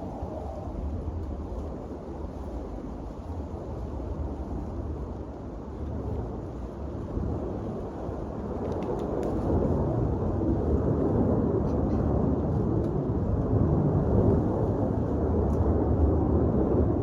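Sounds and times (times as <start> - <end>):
low rumbling noise: 0.0 - 17.0.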